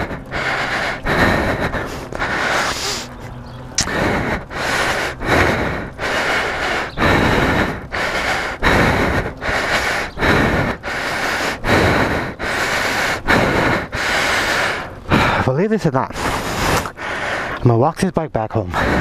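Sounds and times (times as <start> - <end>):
man breathing heavily: 0.0 - 17.6, 18.7 - 19.0.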